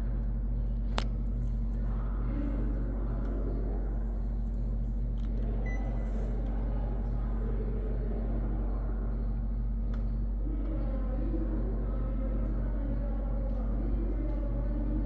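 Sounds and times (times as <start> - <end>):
air conditioner humming: 0.0 - 13.1.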